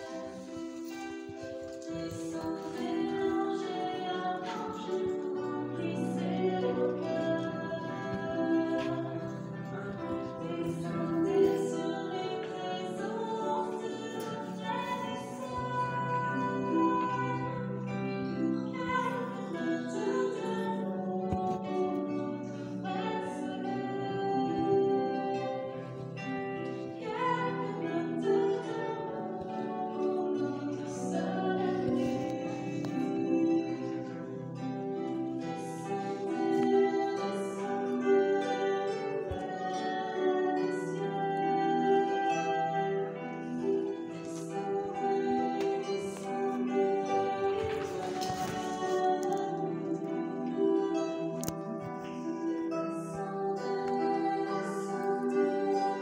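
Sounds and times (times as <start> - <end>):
harps playing: 0.0 - 56.0
women singing a slow hymn: 0.0 - 56.0.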